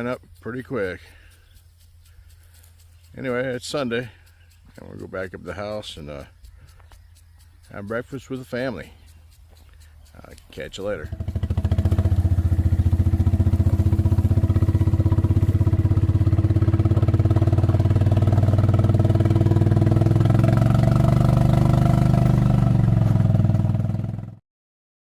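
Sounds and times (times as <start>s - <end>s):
small engine running: 0.0s - 24.4s.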